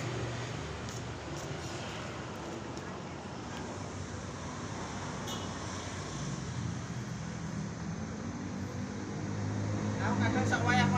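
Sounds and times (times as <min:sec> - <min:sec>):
street traffic noise: 0:00.0 - 0:10.9
vehicle engine humming: 0:00.0 - 0:10.9.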